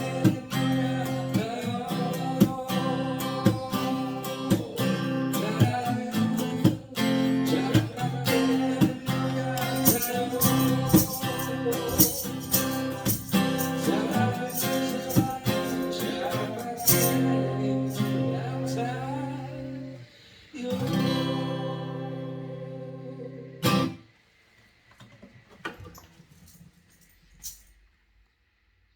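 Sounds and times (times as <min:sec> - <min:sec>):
acoustic guitar strumming: 0:00.0 - 0:20.0, 0:20.7 - 0:24.0.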